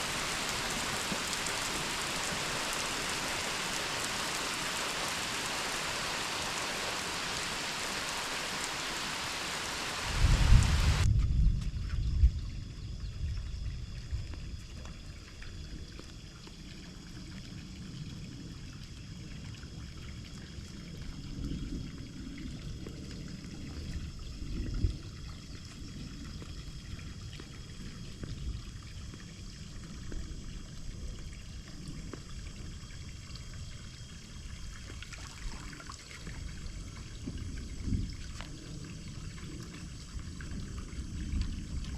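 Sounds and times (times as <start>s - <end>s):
pool water pouring and trickling: 0.0s - 11.1s, 13.8s - 41.9s.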